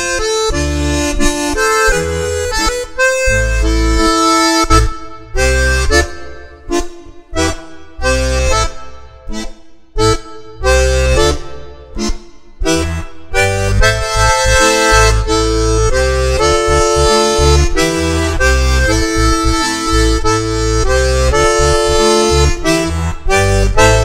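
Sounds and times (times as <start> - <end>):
button accordion melody: 0.0 - 24.0.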